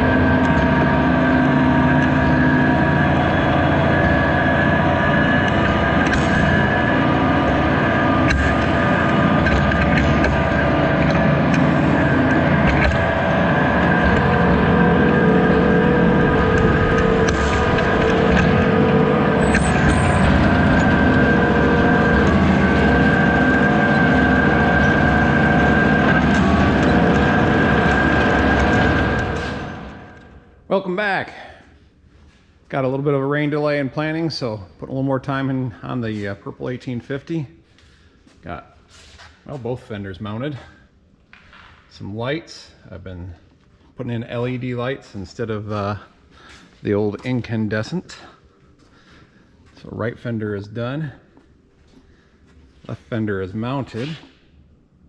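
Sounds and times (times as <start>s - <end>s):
tractor engine drone with whine: 0.0s - 30.8s, 33.2s - 55.0s.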